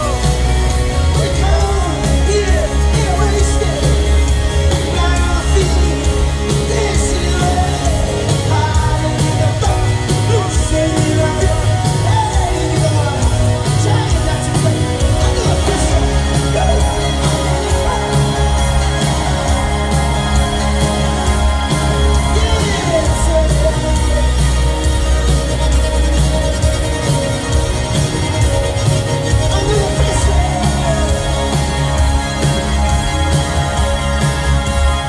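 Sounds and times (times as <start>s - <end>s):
drums: 0.0s - 35.0s
electric guitars: 0.0s - 35.0s
keyboards: 0.0s - 35.0s
sung vocals: 0.0s - 35.0s.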